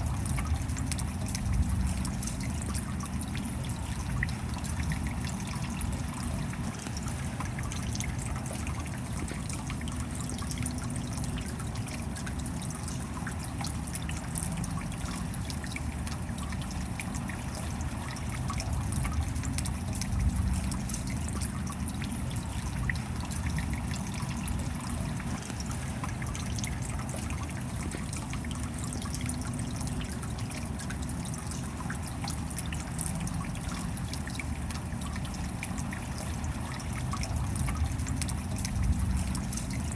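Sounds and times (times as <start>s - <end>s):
steady rain: 0.0s - 39.9s
water trickling and dripping: 0.0s - 39.9s.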